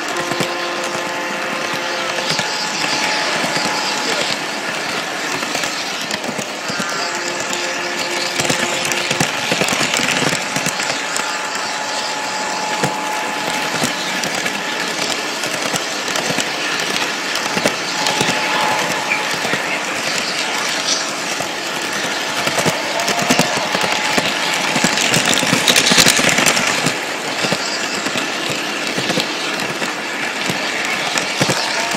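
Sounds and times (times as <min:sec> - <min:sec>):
toy train wheels clicking on rails: 0:00.0 - 0:31.9.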